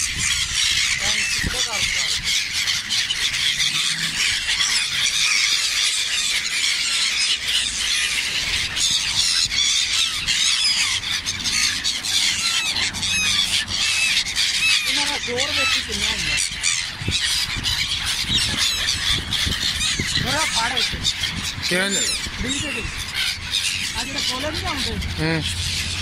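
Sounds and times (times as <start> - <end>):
gulls calling: 0.0 - 26.0.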